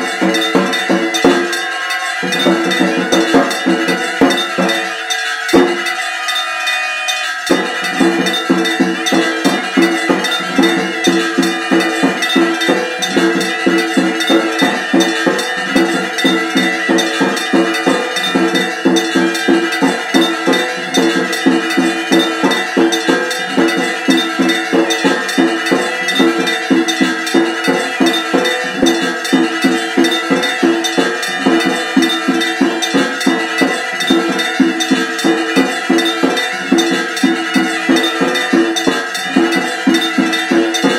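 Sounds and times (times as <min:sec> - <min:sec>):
temple bells struck rapidly: 0:00.0 - 0:40.9.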